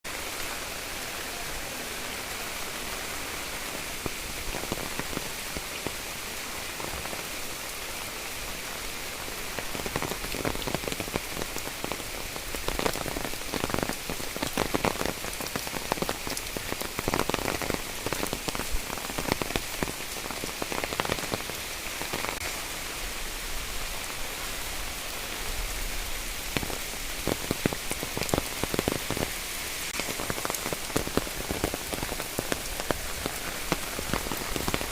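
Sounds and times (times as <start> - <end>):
heavy rain falling: 0.0 - 34.9
raindrops pattering: 0.0 - 34.9.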